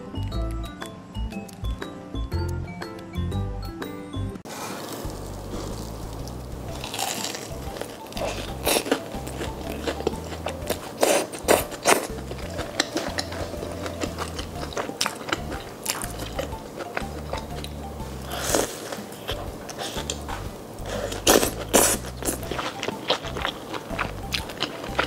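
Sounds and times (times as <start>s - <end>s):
background music with low beat: 0.0s - 4.4s, 5.1s - 25.0s
crunching and chewing fried food: 4.7s - 25.0s.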